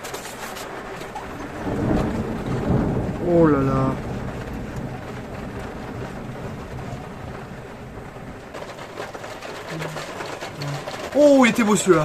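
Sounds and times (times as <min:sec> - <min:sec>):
heavy rain falling: 0:00.0 - 0:12.0
thunder rumbling: 0:00.6 - 0:12.0.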